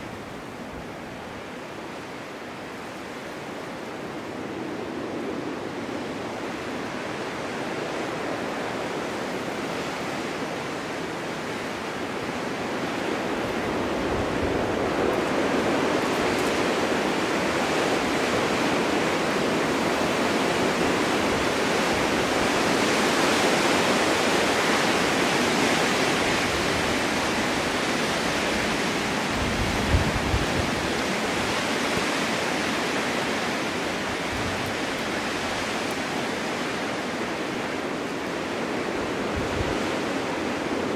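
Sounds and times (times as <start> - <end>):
wind blowing through forest: 0.0 - 40.9.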